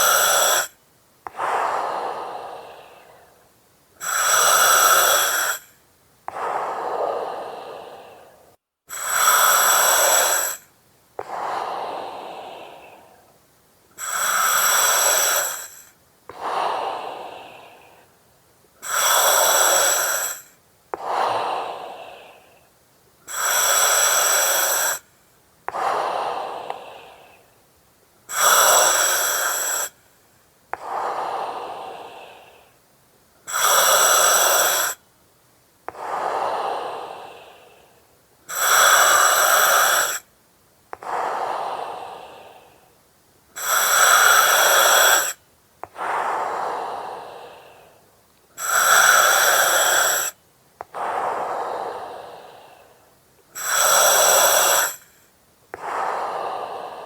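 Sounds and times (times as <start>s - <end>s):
breathing through oxygen mask: 0.0s - 18.2s, 18.8s - 22.7s, 23.3s - 25.1s, 25.7s - 27.5s, 28.3s - 30.0s, 30.7s - 32.8s, 33.5s - 35.0s, 35.9s - 40.3s, 41.0s - 42.9s, 43.6s - 57.0s.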